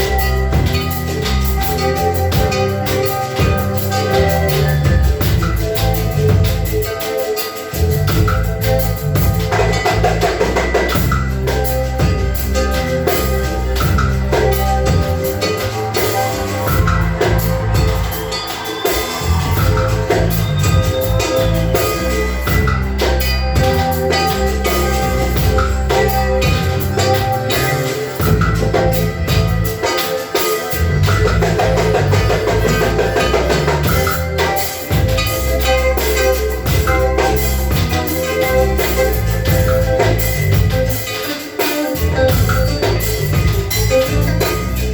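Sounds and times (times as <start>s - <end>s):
repeating bass line: 0.0s - 6.9s, 7.8s - 18.4s, 19.2s - 29.8s, 30.8s - 41.1s, 42.0s - 44.9s
drum kit beat: 0.0s - 44.9s
sustained pitched instruments: 0.0s - 44.9s.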